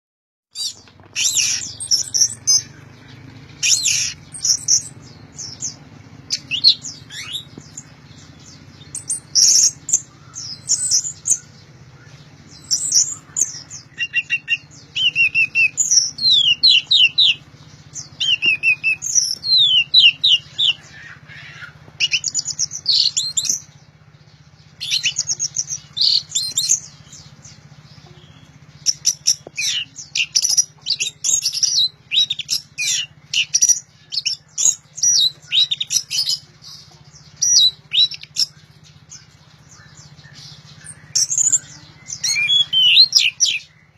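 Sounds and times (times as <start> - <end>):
thrush singing: 0.6 - 43.9.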